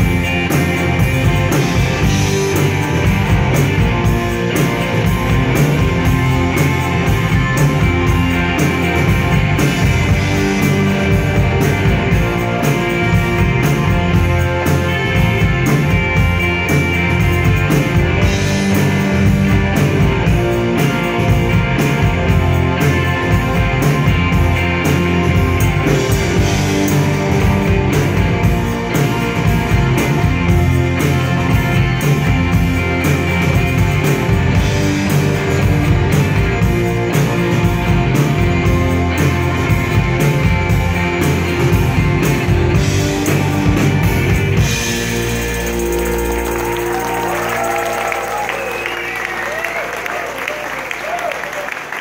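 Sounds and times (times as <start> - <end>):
drum kit beat: 0.0 - 51.2
electric guitars: 0.0 - 52.0
keyboards: 0.0 - 52.0.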